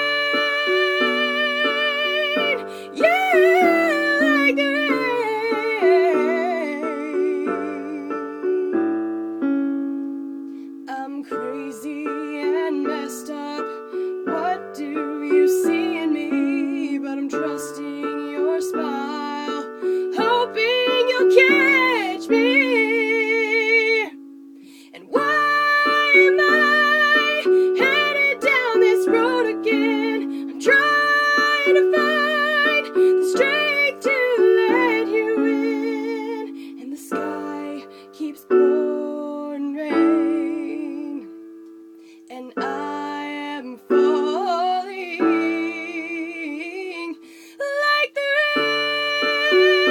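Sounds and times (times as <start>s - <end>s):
woman singing with vibrato: 0.0s - 9.1s, 10.8s - 41.5s, 42.3s - 49.9s
piano accompaniment: 0.0s - 49.9s.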